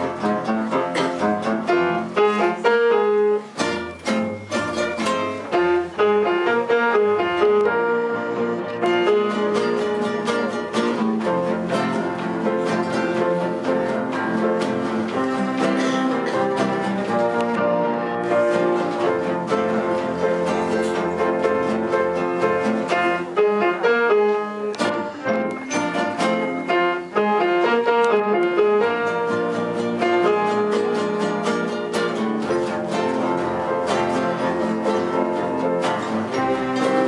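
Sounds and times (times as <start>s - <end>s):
plucked acoustic guitar chords: 0.0s - 37.0s.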